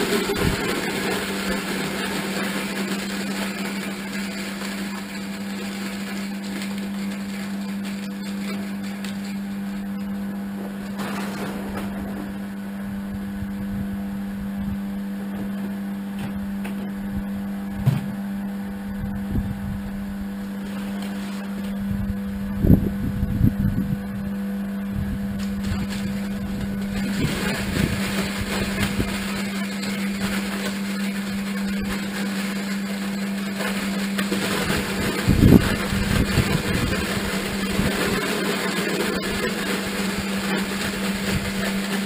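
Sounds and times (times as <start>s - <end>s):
electric motor humming: 0.0s - 42.0s.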